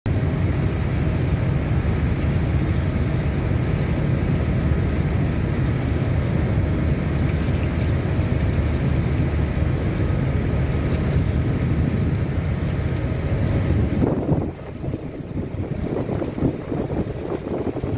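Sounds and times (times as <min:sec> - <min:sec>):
boat engine rumble: 0:00.0 - 0:17.9
wind on microphone: 0:00.2 - 0:17.9.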